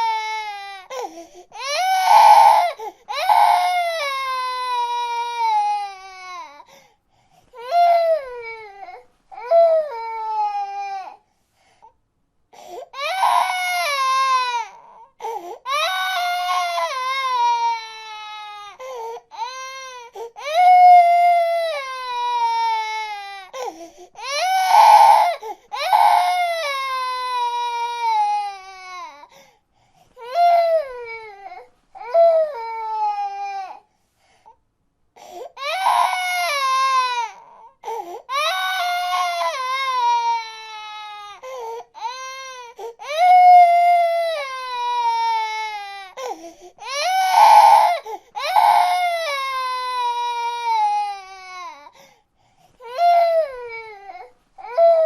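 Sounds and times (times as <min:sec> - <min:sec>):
baby crying: 0:00.0 - 0:06.7, 0:07.6 - 0:11.2, 0:12.9 - 0:29.4, 0:30.2 - 0:33.8, 0:35.3 - 0:52.0, 0:52.8 - 0:55.0.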